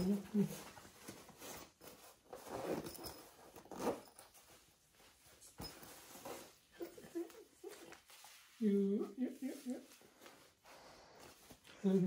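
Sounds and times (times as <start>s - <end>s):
fabric and straps rustling: 0.0s - 12.0s.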